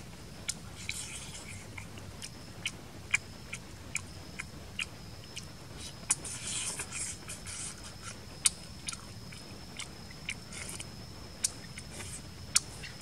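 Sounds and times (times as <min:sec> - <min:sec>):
wet chewing with crunches: 0:00.4 - 0:13.0.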